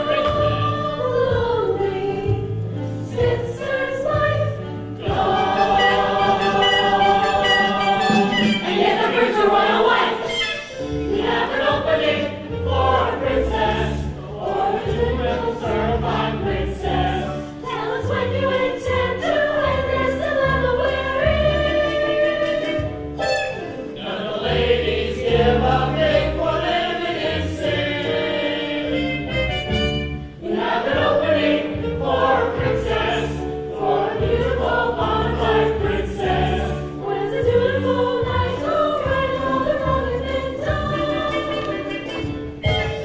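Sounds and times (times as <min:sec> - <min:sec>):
chorus singing: 0:00.0 - 0:43.0
instrumental accompaniment with bass: 0:00.0 - 0:43.0.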